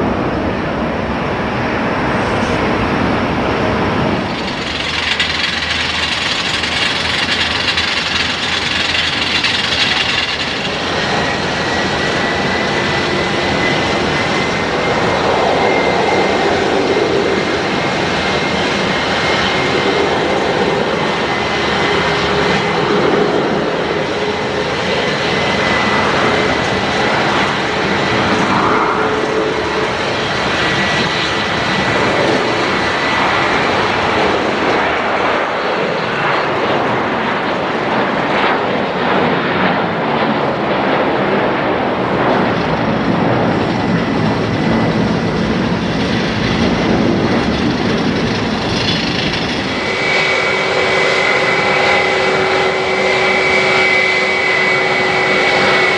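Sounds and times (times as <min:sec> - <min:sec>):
high engine whine: 0:00.0 - 0:38.9, 0:39.9 - 0:55.9
jet airliner engines running: 0:00.0 - 0:55.9.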